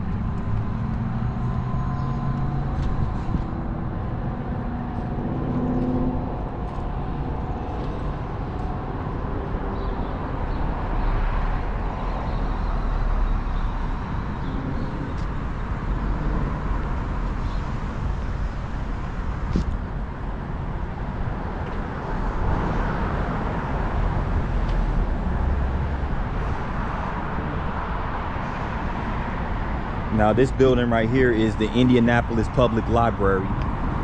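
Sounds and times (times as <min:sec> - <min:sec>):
low traffic rumble: 0:00.0 - 0:34.0
passing cars: 0:00.0 - 0:34.0.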